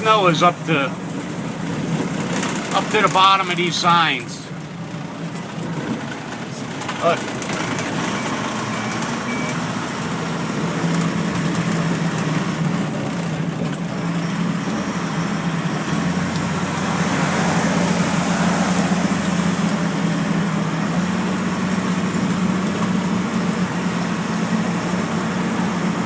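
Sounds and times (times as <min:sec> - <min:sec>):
road noise: 0:00.0 - 0:26.0
truck engine running: 0:00.0 - 0:26.0.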